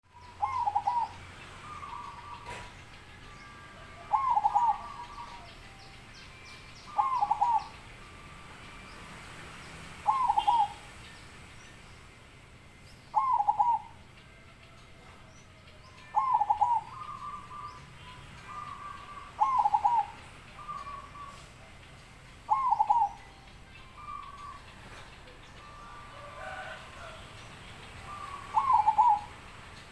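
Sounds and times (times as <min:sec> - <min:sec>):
dove cooing: 0:00.1 - 0:05.8, 0:06.8 - 0:08.6, 0:09.8 - 0:11.0, 0:13.1 - 0:14.4, 0:15.0 - 0:29.9.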